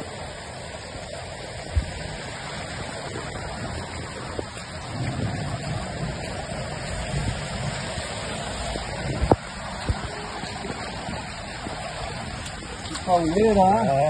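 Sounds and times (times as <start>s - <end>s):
flowing flood water: 0.0s - 14.0s
heavy rain falling: 0.0s - 14.0s.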